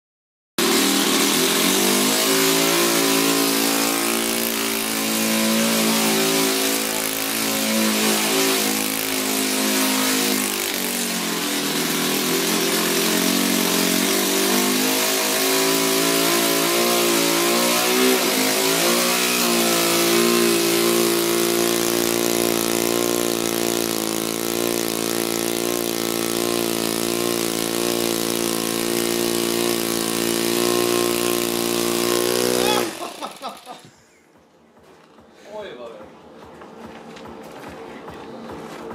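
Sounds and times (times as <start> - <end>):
model engine running: 0.6 - 33.8.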